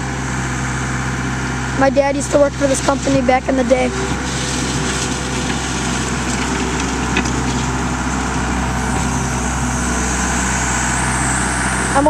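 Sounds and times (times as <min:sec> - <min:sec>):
skid steer diesel engine running: 0:00.0 - 0:12.0.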